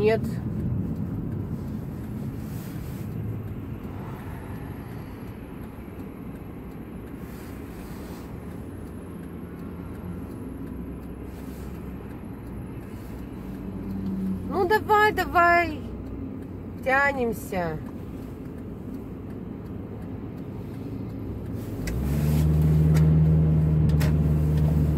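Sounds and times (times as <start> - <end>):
car engine and tyres hum: 0.0 - 24.9.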